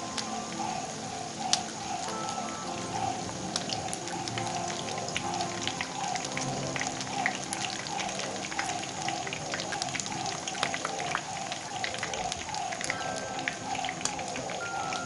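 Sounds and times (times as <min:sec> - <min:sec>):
food deep-frying in hot oil: 0:00.0 - 0:15.0.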